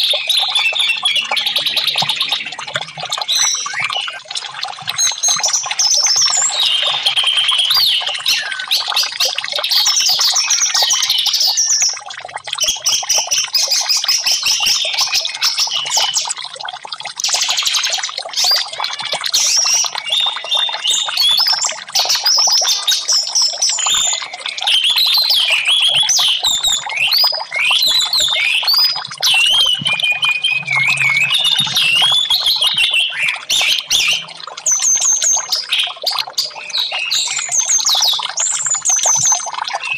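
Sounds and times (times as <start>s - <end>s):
thrush singing warbled whistles: 0.0s - 4.4s, 5.0s - 12.0s, 17.3s - 39.9s
trickling water: 0.0s - 39.9s.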